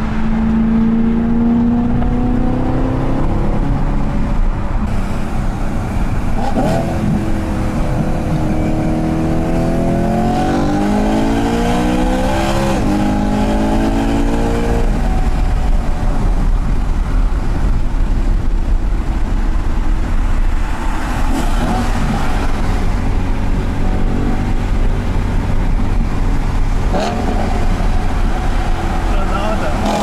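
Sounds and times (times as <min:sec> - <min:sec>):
car engine accelerating through gears: 0:00.0 - 0:16.8, 0:20.3 - 0:30.0
road noise: 0:00.0 - 0:30.0.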